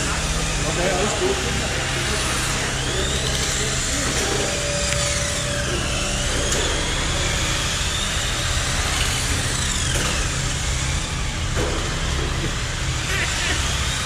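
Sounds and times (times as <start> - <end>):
toy car electric motors whining: 0.0 - 14.0.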